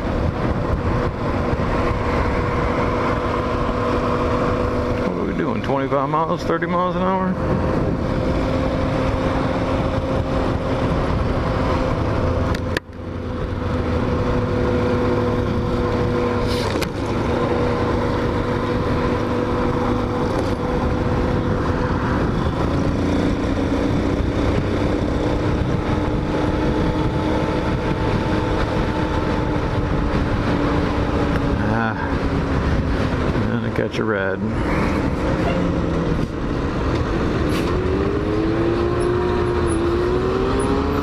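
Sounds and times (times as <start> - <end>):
motorcycle engine cruising: 0.0 - 41.0
wind noise on microphone: 0.0 - 41.0.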